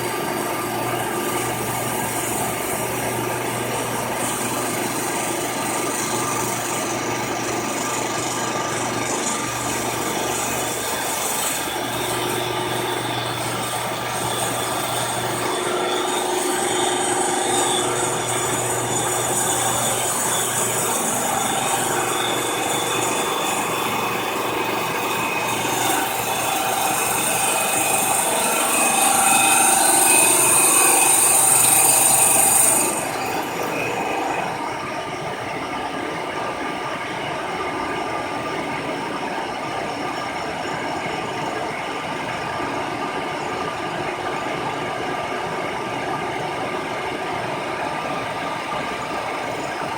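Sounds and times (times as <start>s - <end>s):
milling machine running: 0.0s - 49.9s.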